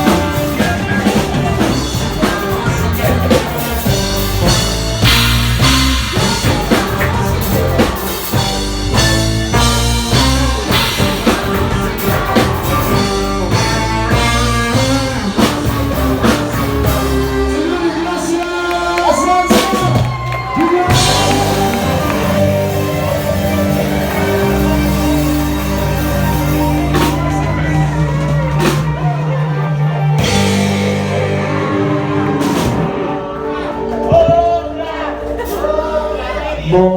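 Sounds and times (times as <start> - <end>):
reggae ska band music: 0.0 - 36.9.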